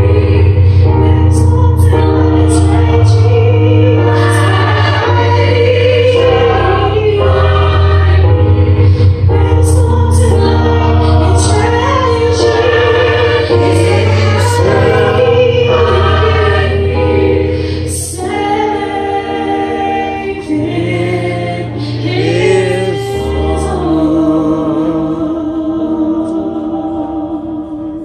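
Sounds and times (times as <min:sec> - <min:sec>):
choir singing in harmony: 0:00.0 - 0:28.0
electric keyboard bass notes: 0:00.0 - 0:28.0.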